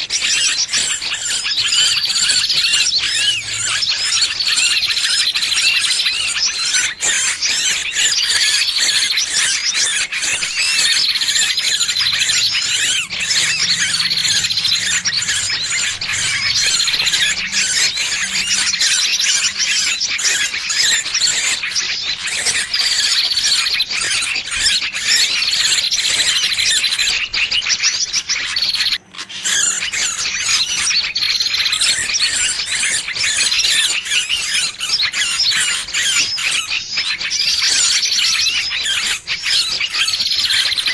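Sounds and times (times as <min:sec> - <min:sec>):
trapped bird shrill squealing: 0:00.0 - 0:40.9.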